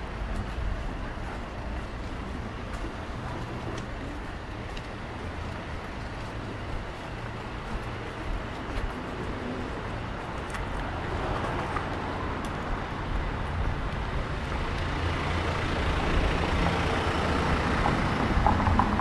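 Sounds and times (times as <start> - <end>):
road traffic rumble: 0.0 - 19.0
street background hiss: 0.0 - 19.0.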